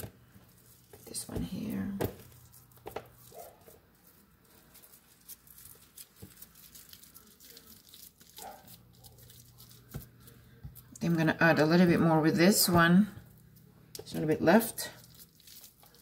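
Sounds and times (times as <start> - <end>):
hands shaping raw meat: 0.0 - 16.0.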